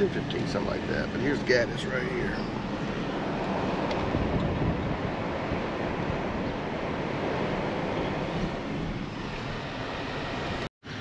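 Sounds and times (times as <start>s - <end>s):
road and wind noise in vehicle: 0.0s - 11.0s.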